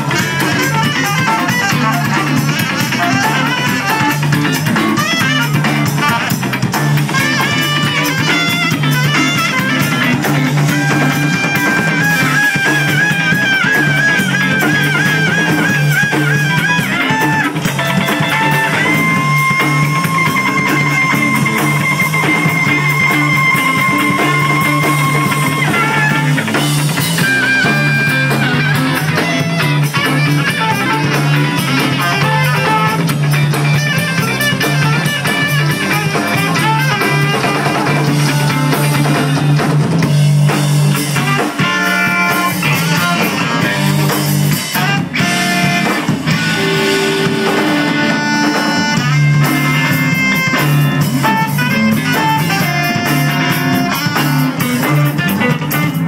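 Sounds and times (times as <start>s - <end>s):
drum kit: 0.0s - 56.0s
electric bass: 0.0s - 56.0s
electric guitar: 0.0s - 56.0s
saxophone: 0.0s - 56.0s.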